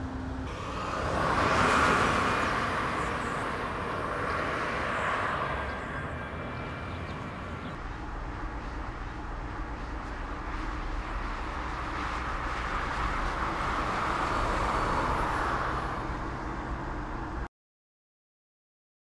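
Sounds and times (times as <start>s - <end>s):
road traffic rumble: 0.0s - 17.5s.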